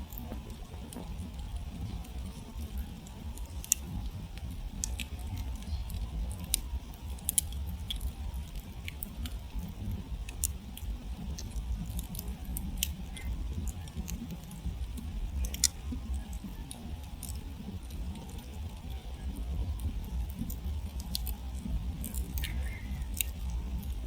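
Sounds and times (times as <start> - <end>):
embers crackling and popping: 0.0 - 24.0.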